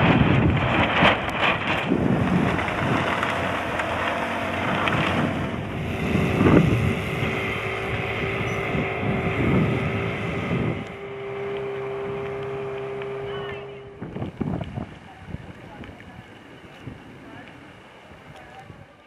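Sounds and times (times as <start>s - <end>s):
boat engine hum: 0.0s - 19.0s
wind buffeting microphone: 0.0s - 19.0s.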